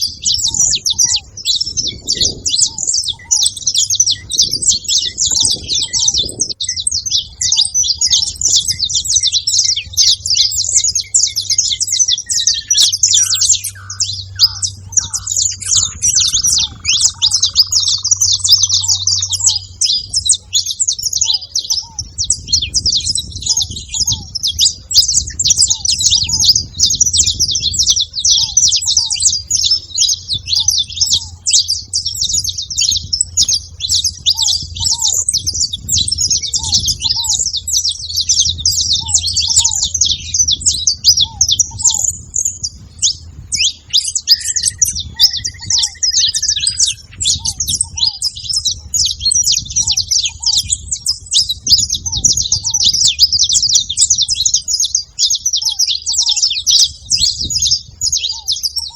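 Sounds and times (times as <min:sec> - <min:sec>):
doves soft low paired notes: 0:00.0 - 0:58.8
finch singing chattering stream: 0:00.0 - 0:58.9
low gliding bird call: 0:00.0 - 0:58.9.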